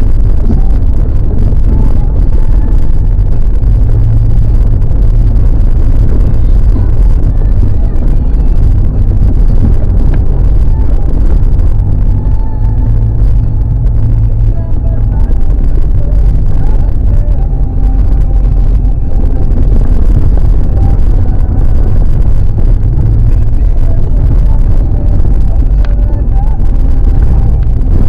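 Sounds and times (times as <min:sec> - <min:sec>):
road noise on dirt road: 0:00.0 - 0:28.0
vehicle engine running: 0:00.0 - 0:28.0.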